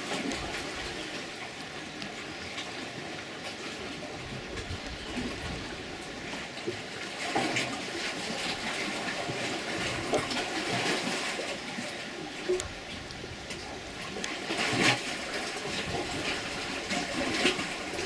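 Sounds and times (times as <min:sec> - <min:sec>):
running water splashing: 0:00.0 - 0:18.0.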